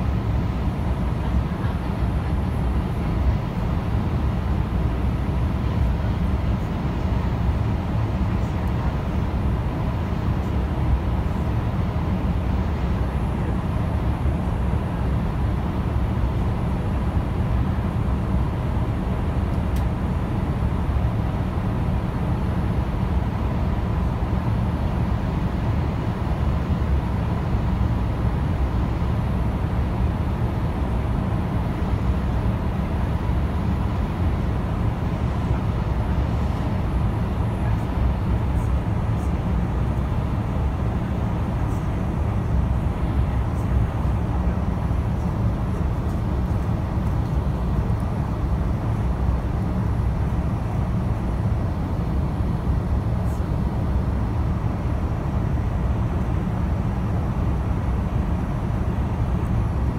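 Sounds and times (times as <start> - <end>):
jet engine rumble: 0.0 - 59.9.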